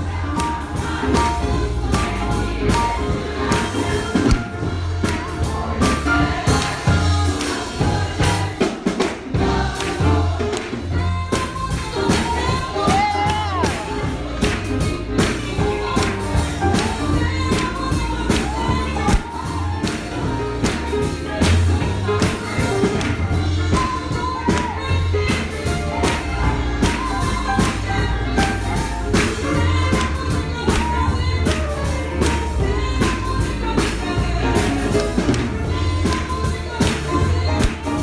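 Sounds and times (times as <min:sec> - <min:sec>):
bass line: 0:00.0 - 0:08.6, 0:09.4 - 0:38.0
band playing: 0:00.0 - 0:38.0
congregation and choir singing: 0:00.0 - 0:38.0
drums and tambourine beat: 0:00.0 - 0:38.0.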